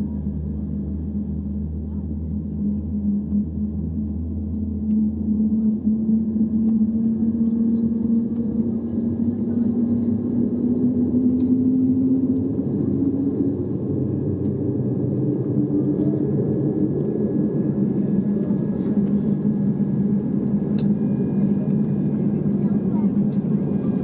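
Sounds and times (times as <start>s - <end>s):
airliner engine rumble: 0.0s - 24.0s.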